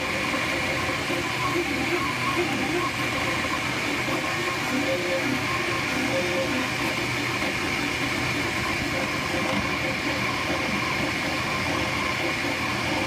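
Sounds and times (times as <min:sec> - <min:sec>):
printer motor whirring: 0:00.0 - 0:13.0
printer stepper tones: 0:00.0 - 0:13.0.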